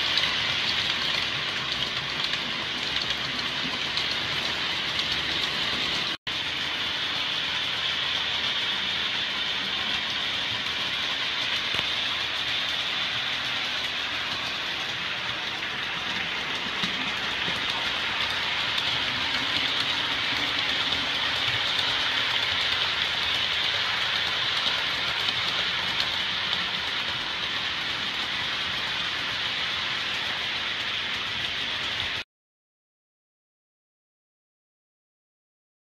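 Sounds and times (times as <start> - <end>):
model train motors whirring: 0.0 - 32.2.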